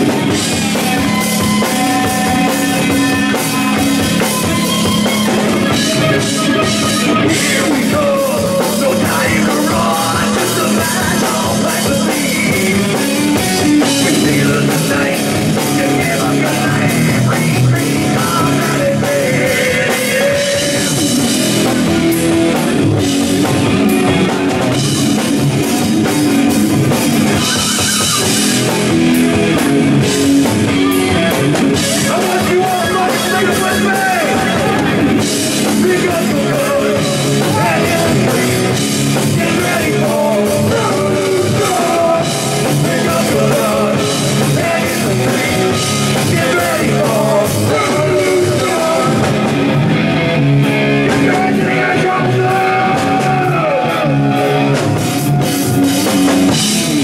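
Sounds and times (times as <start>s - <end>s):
drum kit: 0.0s - 57.0s
electric guitar: 0.0s - 57.0s
rock band playing live: 0.0s - 57.0s.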